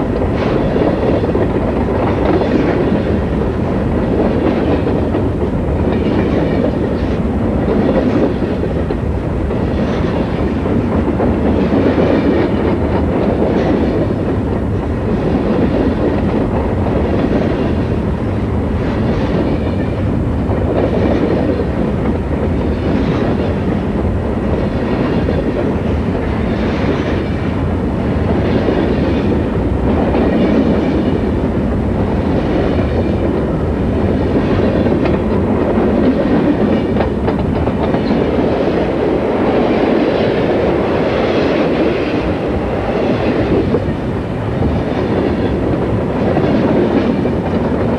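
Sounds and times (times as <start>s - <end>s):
freight train rumbling: 0.0s - 47.9s.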